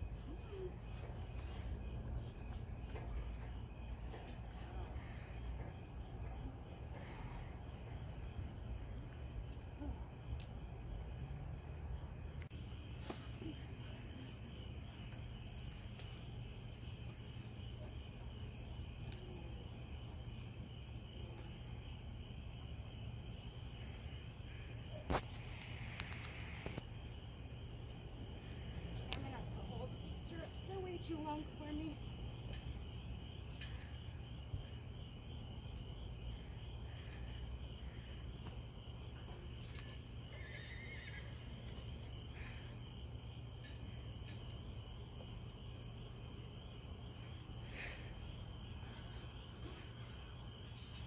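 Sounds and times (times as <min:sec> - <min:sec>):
crickets chirping: 0:00.0 - 0:51.0.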